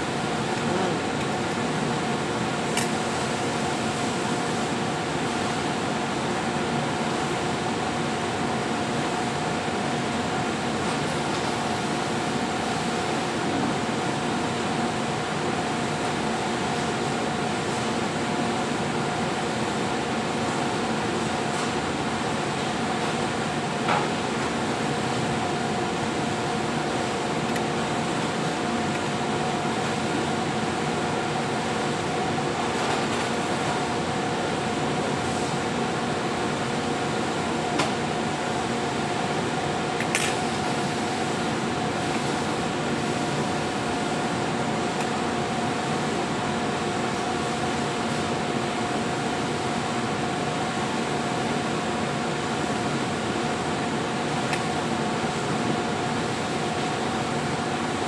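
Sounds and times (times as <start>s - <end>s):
factory machinery drone: 0.0s - 58.0s.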